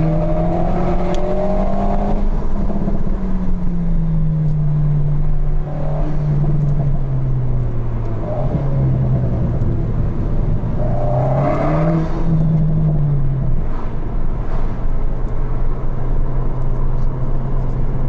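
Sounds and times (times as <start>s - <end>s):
car engine running: 0.0s - 18.0s
tyre and road noise: 0.0s - 18.0s.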